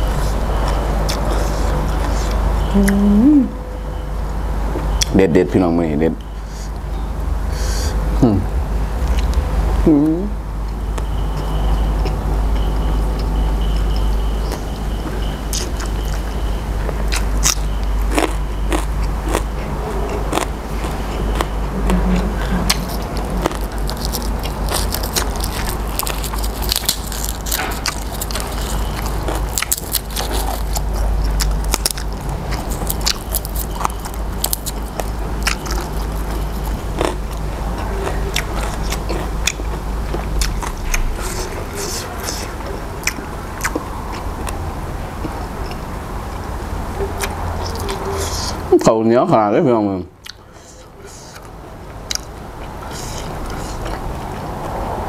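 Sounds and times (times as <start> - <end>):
man chewing crunchy vegetables: 0.0 - 3.0, 9.0 - 9.6, 10.6 - 48.7, 50.2 - 55.0.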